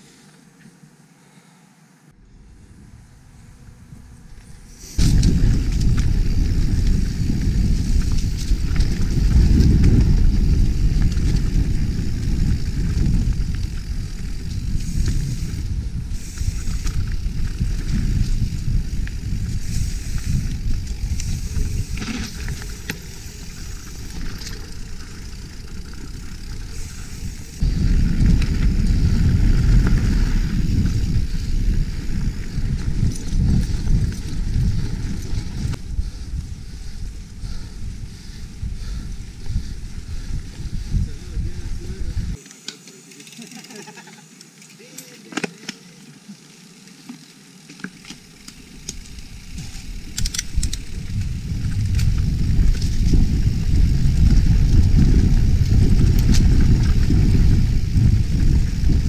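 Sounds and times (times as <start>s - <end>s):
mountain bike rumbling over dirt: 4.4s - 44.3s, 46.3s - 59.0s.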